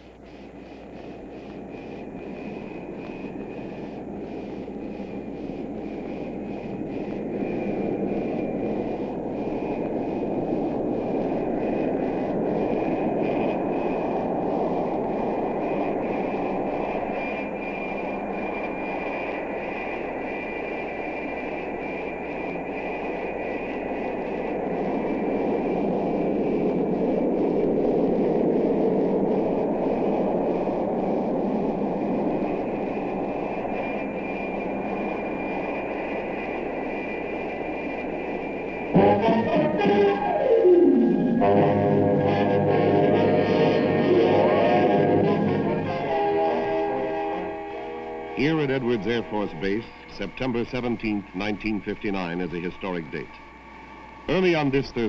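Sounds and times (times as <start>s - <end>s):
aircraft engines roaring: 0.0s - 55.0s
high engine whine: 0.0s - 55.0s.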